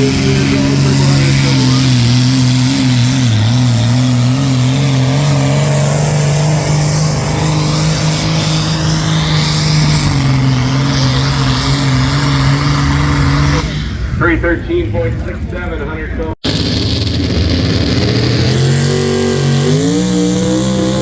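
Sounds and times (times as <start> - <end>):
diesel engine at high revs: 0.0 - 21.0.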